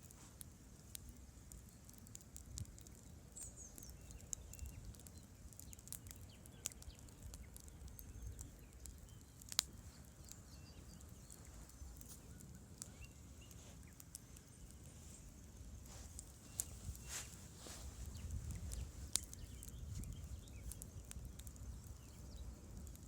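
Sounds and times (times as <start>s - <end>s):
campfire wood crackling: 0.0s - 23.0s.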